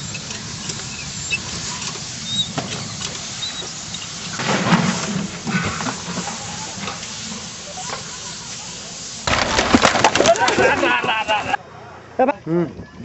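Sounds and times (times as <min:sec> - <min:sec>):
fire crackling and popping: 0:00.0 - 0:10.8
outdoor hiss: 0:00.0 - 0:11.6.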